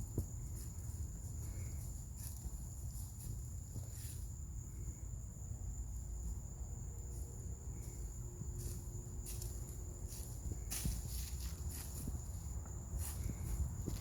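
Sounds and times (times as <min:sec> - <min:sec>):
high-pitched insect call: 0:00.0 - 0:14.0.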